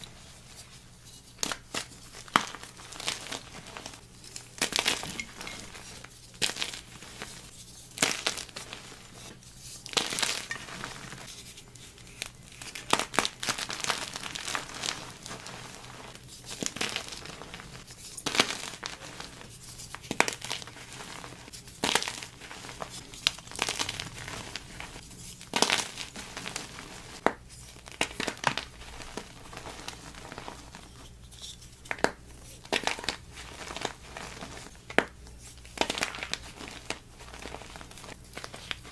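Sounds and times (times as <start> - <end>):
chalk being crumbled and crushed: 0.2 - 38.9.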